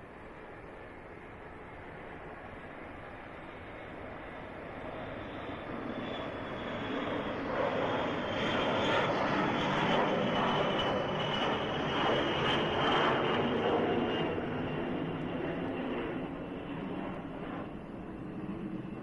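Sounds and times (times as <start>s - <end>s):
aircraft engine noise: 0.0s - 19.0s.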